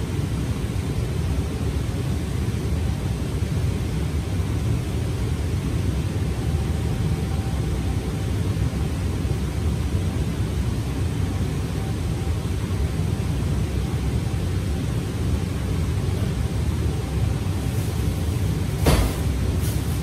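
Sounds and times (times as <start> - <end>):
ventilation rumbling: 0.0 - 20.0.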